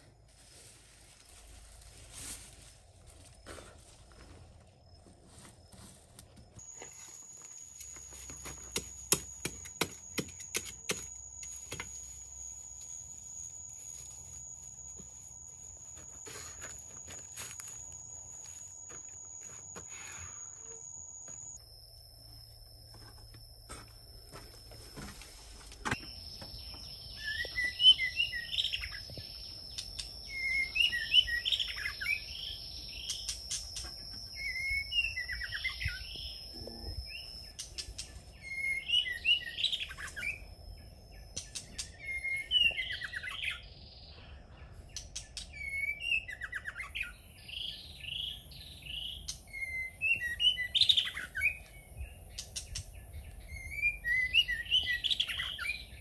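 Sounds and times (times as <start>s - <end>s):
thin steady high tone: 6.5s - 56.0s.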